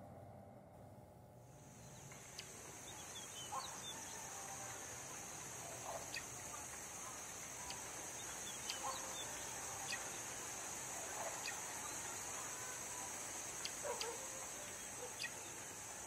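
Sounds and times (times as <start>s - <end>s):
steady high hiss: 1.4s - 16.0s
birds chirping: 1.6s - 16.0s.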